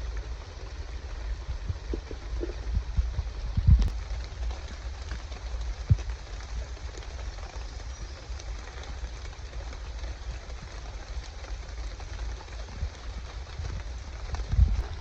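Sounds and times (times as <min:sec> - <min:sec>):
deep rumble: 0:00.0 - 0:15.0
heavy rain hissing: 0:00.0 - 0:15.0
raindrops tapping: 0:00.0 - 0:15.0.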